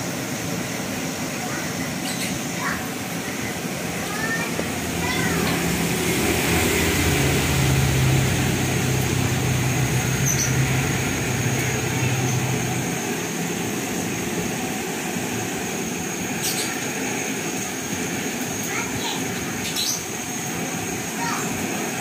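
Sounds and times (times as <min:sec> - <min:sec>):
low engine-like hum: 0:00.0 - 0:22.0
stove burner rushing: 0:00.0 - 0:22.0.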